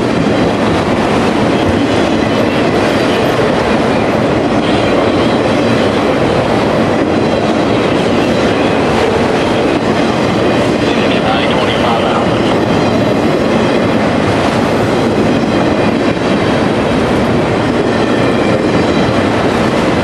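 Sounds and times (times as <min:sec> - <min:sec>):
steel wheels rolling on rails: 0:00.0 - 0:20.0.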